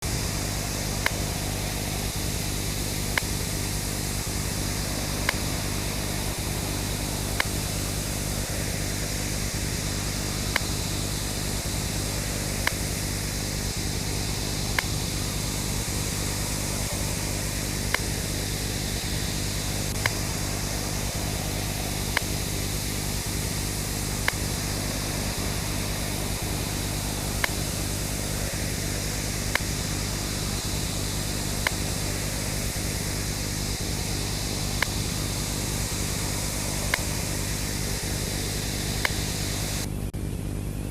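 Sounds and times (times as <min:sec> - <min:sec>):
low buzzing hum: 0:00.0 - 0:40.9
tv static hiss: 0:00.0 - 0:40.9.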